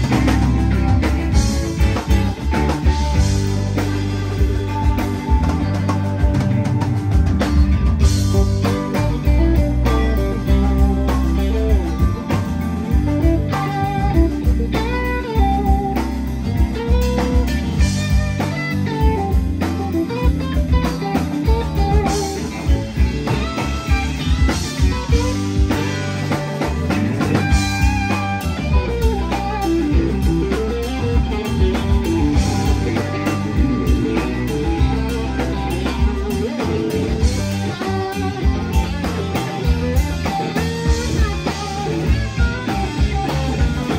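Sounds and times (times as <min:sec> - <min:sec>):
bass guitar: 0:00.0 - 0:43.9
drum beat: 0:00.0 - 0:43.9
electric guitar lines: 0:00.0 - 0:43.9
keyboard: 0:00.0 - 0:43.9.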